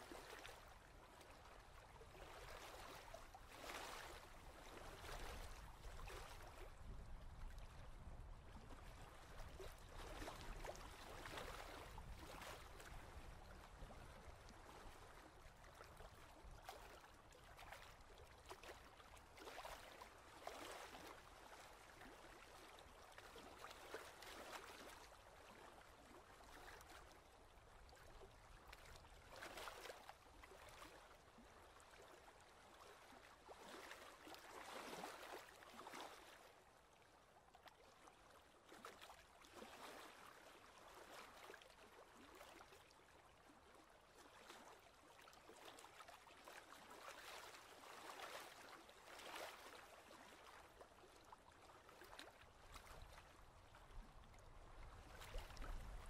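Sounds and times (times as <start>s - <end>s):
small waves lapping on rocks: 0.0s - 36.5s, 38.7s - 42.8s, 44.2s - 56.0s.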